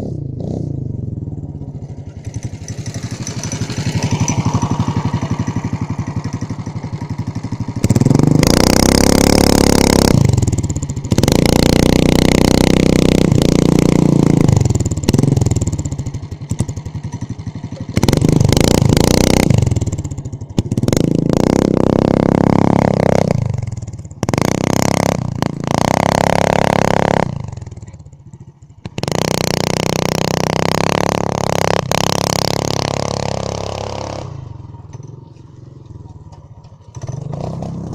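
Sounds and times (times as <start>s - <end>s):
small engine revving: 0.0s - 28.0s, 28.9s - 37.9s.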